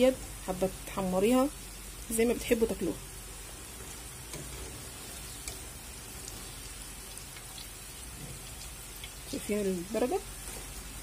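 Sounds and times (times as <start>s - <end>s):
fries sizzling in hot oil: 0.0s - 11.0s.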